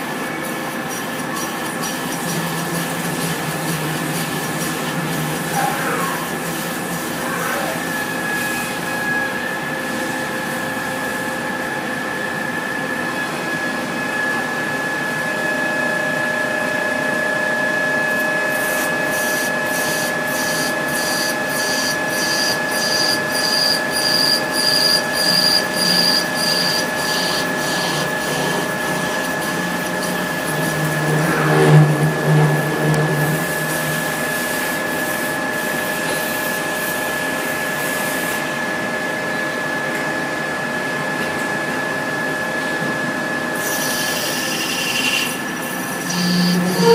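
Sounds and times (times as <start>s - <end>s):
machine high whine: 0.0s - 46.9s.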